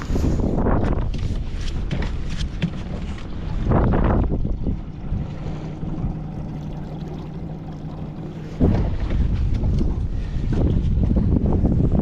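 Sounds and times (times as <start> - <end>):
boat motor humming: 0.0 - 12.0
wind buffeting microphone: 0.0 - 12.0.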